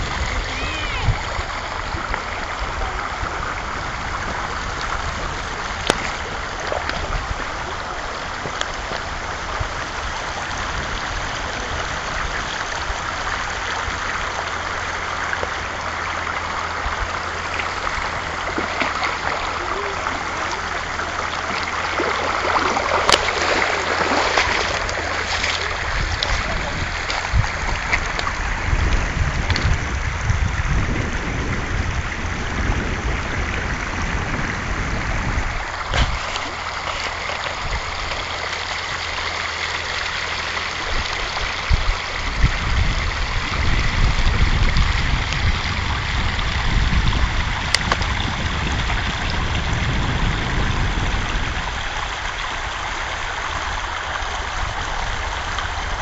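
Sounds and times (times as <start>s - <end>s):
low rumbling on microphone: 0.0s - 56.0s
river water over stones: 0.0s - 56.0s.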